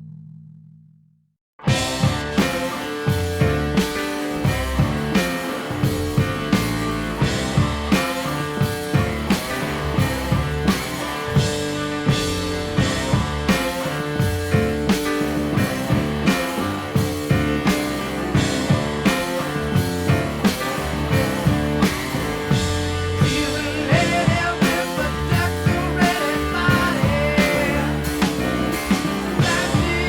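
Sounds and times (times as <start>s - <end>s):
drum kit beat: 1.6s - 30.0s
hard rock band playing: 1.6s - 30.0s.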